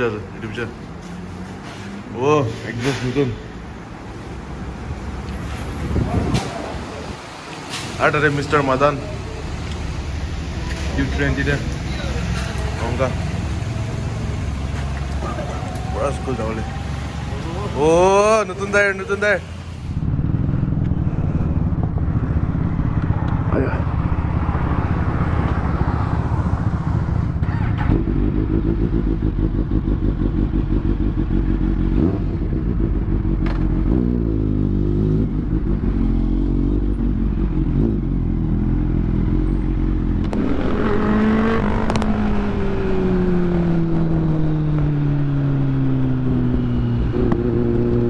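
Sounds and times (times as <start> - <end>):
motorcycle engine revving: 8.0 - 48.0.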